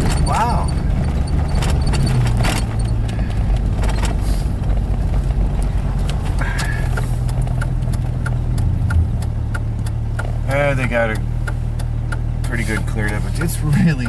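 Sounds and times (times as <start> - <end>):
low drone of engine and tyres: 0.0 - 14.0.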